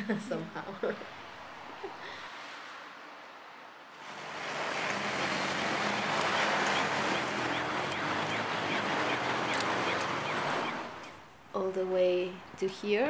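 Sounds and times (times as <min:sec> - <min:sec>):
passing cars: 0:00.4 - 0:11.5.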